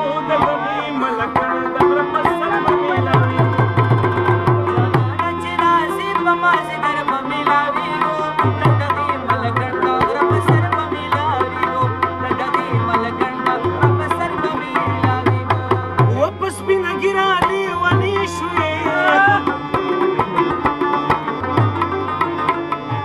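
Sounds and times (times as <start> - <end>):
harmonium melody: 0.0 - 23.0
rabab: 0.0 - 23.0.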